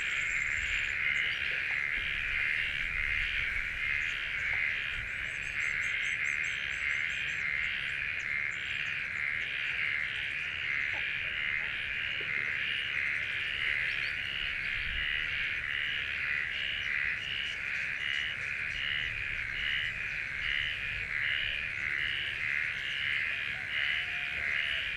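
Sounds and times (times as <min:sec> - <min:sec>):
pulsing animal chorus: 0:00.0 - 0:24.9.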